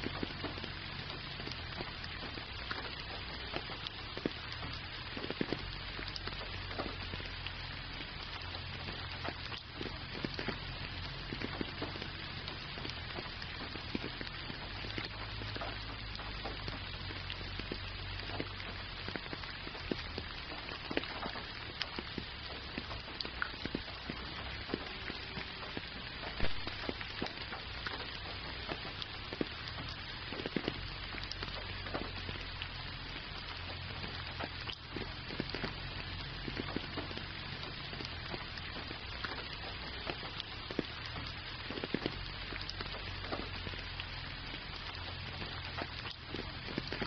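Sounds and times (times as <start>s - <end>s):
gentle rain falling: 0.0s - 47.0s
low steady rumble: 0.0s - 47.0s
raindrops ticking sharply: 0.0s - 47.0s.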